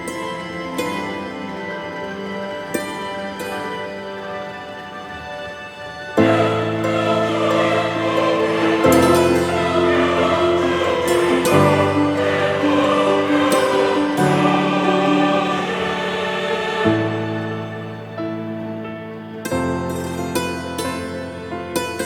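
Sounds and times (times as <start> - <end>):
sustained chords with choir: 0.0 - 22.0.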